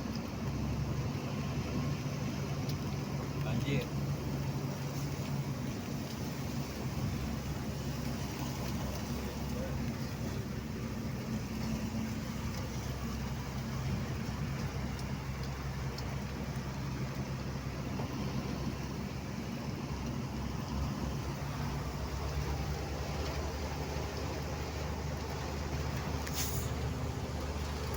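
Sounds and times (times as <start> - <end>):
rain: 0.0 - 27.9
vehicle engine humming: 0.0 - 27.9
tyres hissing on wet road: 0.4 - 27.9.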